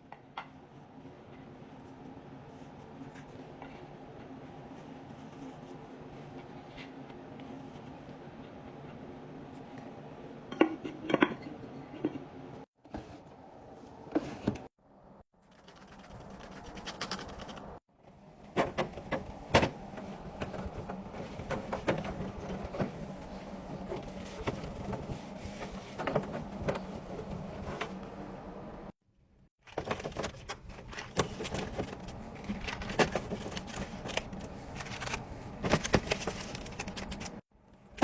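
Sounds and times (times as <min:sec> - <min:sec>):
low room hum: 0:00.0 - 0:38.0.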